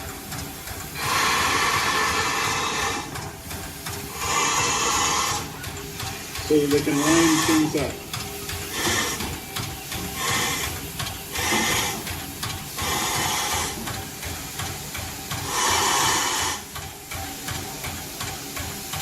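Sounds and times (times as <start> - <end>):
steam hissing bursts: 0.0 - 19.0
steam locomotive chugging: 0.0 - 19.0.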